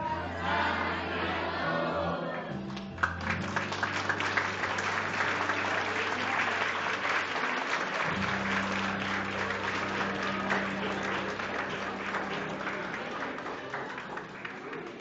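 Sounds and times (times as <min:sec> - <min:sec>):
audience applauding: 0:02.7 - 0:15.0.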